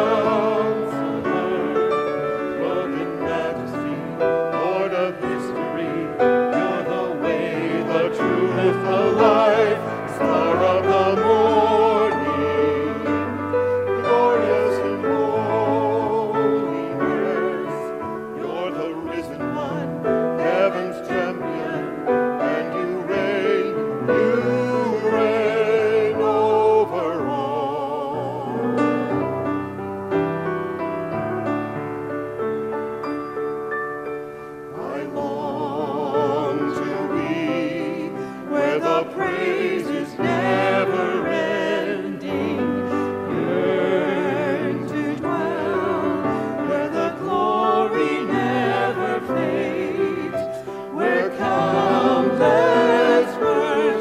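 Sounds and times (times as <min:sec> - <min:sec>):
group singing in harmony: 0:00.0 - 0:30.5, 0:34.6 - 0:54.0
piano accompaniment: 0:00.0 - 0:54.0.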